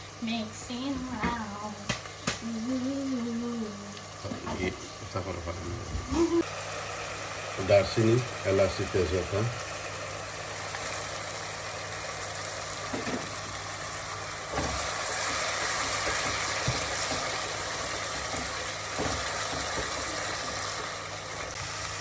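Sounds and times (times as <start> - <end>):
steady low hum: 0.0 - 21.6
chicken sizzling in oil: 3.5 - 22.0.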